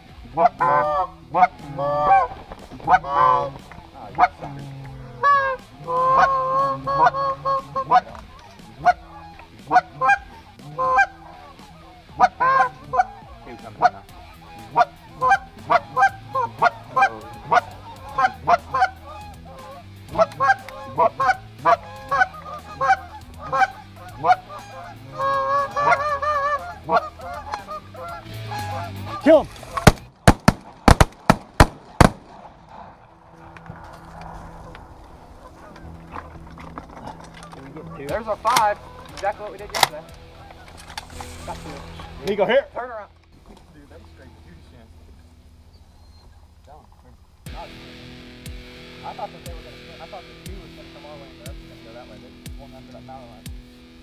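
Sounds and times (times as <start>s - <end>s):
geese wavering calls: 0.0s - 30.1s, 31.6s - 54.0s
geese honking: 0.0s - 54.0s.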